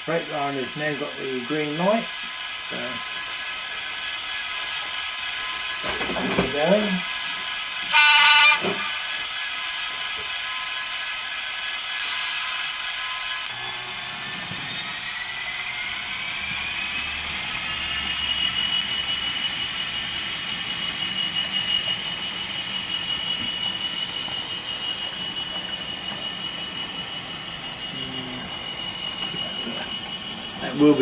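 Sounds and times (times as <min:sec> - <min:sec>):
model locomotive engine whine: 0:00.0 - 0:31.0.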